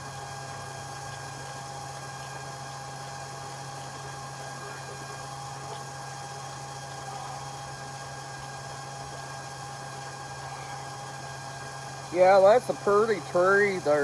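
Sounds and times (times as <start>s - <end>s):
machine hum with whine: 0.0s - 14.0s.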